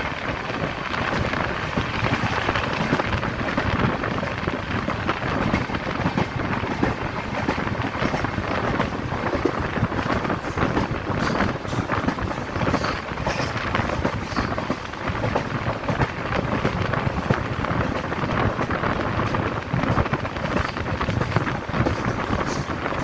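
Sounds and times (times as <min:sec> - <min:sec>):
train rumbling and rattling: 0:00.0 - 0:23.0.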